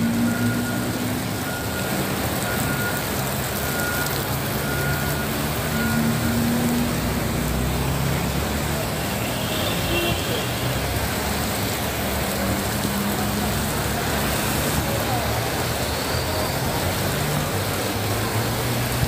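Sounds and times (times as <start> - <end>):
heavy rain hissing: 0.0 - 19.0
vehicles passing on wet road: 0.0 - 19.0.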